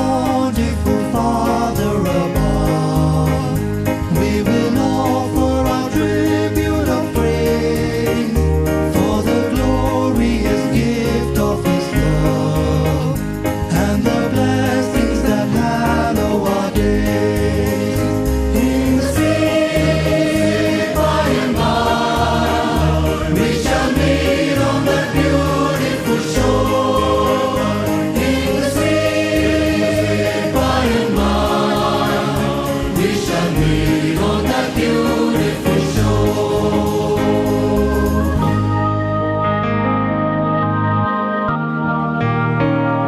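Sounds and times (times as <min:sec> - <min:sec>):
choir singing a hymn: 0:00.0 - 0:38.7
low bass accompaniment: 0:00.0 - 0:43.0.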